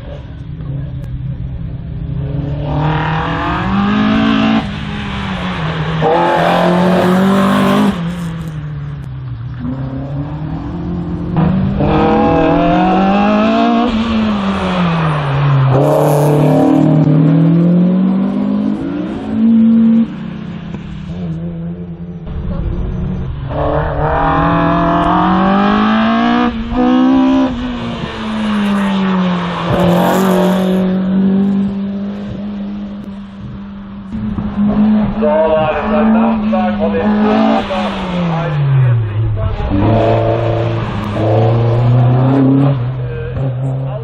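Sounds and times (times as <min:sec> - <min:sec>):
race car engine accelerating: 0:00.0 - 0:44.0.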